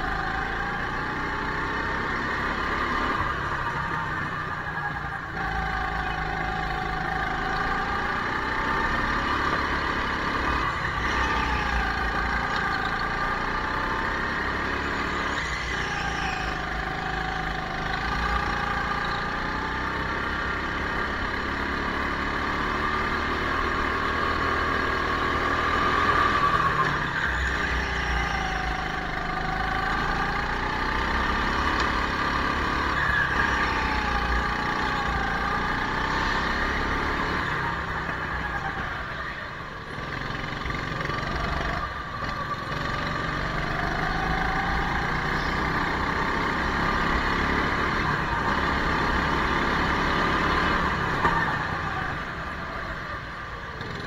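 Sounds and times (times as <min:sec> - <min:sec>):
go-kart motor running: 0:00.0 - 0:54.0.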